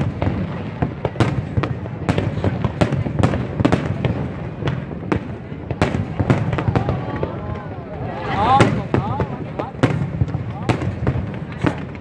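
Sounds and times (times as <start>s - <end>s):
low rumble of explosions: 0.0s - 12.0s.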